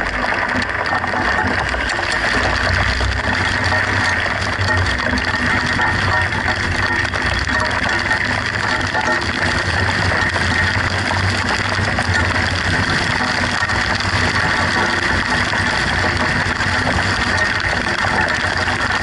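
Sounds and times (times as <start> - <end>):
car engine drone: 0.0 - 19.0.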